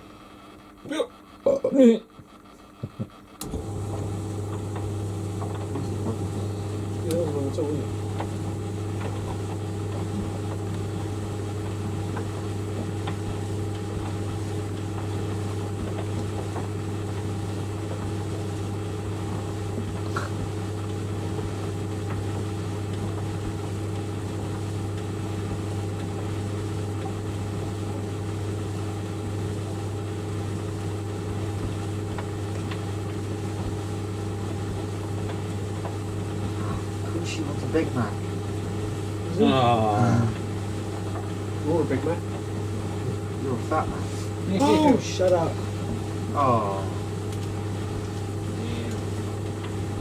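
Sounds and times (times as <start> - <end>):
tumble dryer motor hum: 0.0 - 50.0.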